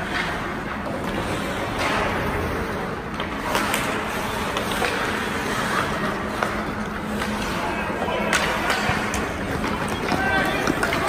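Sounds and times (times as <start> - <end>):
hockey sticks and puck clacking: 0.0 - 11.0
skates scraping on ice: 0.0 - 11.0.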